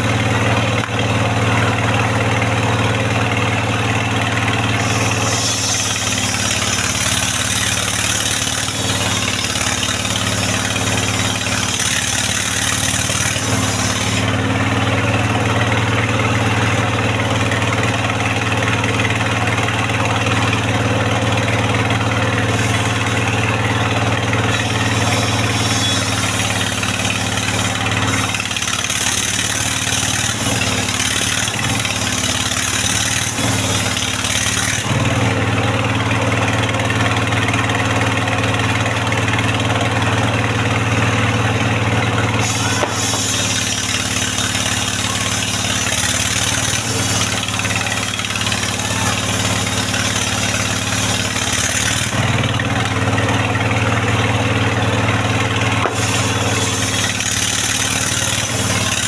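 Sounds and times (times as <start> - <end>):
saw blade cutting wood: 0.0 - 35.4, 36.6 - 53.1, 55.3 - 59.0
sawmill engine running: 0.0 - 59.0.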